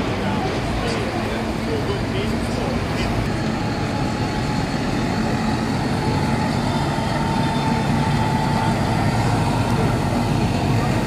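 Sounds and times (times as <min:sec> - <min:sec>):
steady whine: 0:00.0 - 0:11.0
tractor diesel engine passing: 0:00.0 - 0:11.0.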